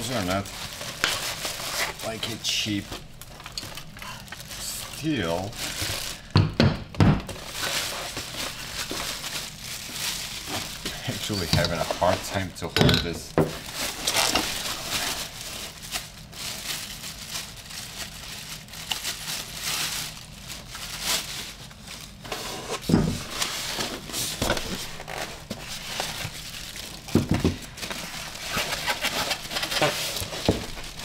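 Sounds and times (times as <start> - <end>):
plastic bags crinkling: 0.0 - 6.4, 7.2 - 31.0.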